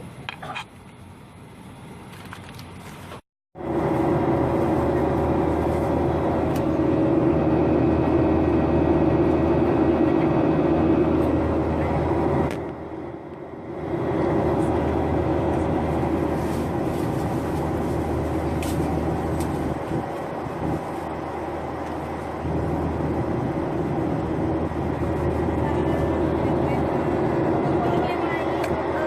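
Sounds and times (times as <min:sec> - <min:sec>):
airplane cabin engine drone: 0:00.0 - 0:29.0.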